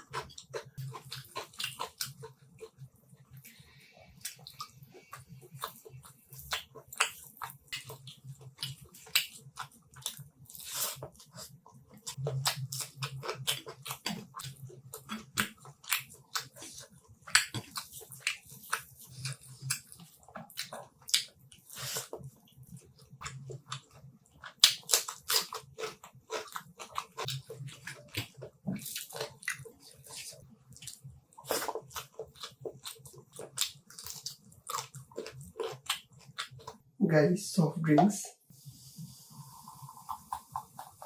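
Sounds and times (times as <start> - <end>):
wet chewing: 0.0 - 36.8, 39.6 - 41.0.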